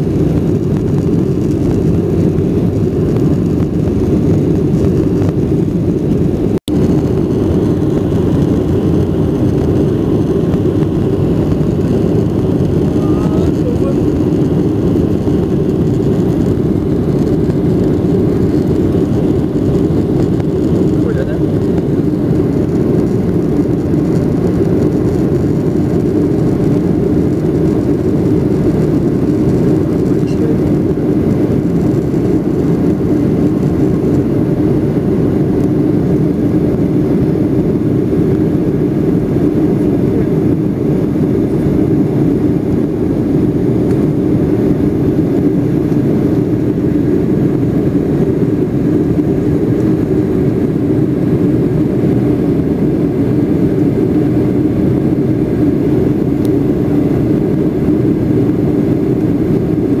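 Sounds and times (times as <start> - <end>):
jet cabin engine drone: 0.0 - 60.0.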